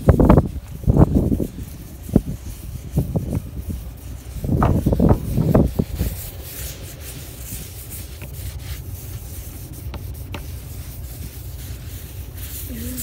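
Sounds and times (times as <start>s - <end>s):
scrubbing of rubbing strokes: 0.0s - 13.0s.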